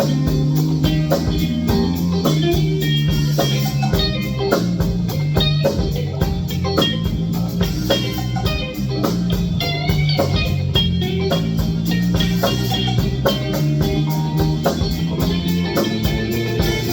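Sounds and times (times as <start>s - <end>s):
drum kit beat: 0.0s - 16.9s
guitar: 0.0s - 16.9s.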